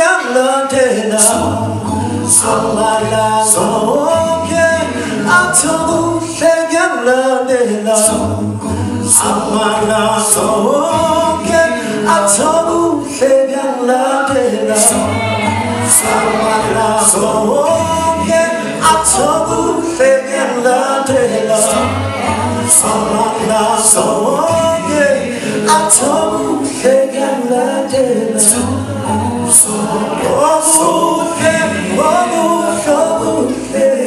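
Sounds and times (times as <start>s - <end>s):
male a cappella group singing: 0.0s - 34.0s.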